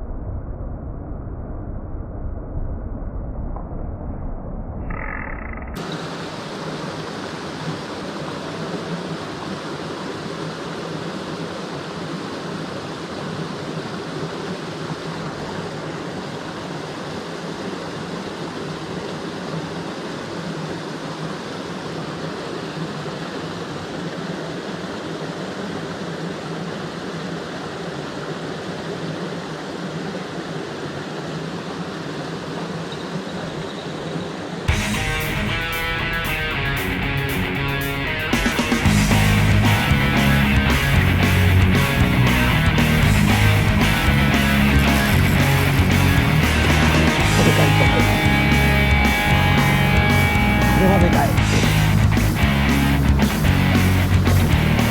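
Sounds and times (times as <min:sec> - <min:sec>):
stream rushing: 0:05.8 - 0:54.9.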